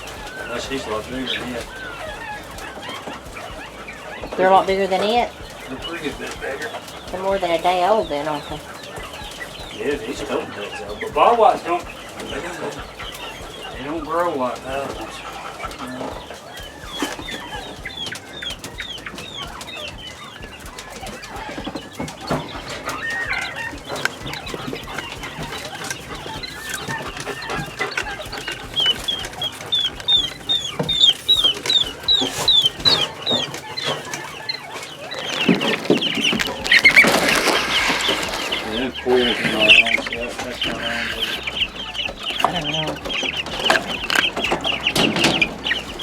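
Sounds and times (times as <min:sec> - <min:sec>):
quail chicks peeping: 0:00.0 - 0:46.0.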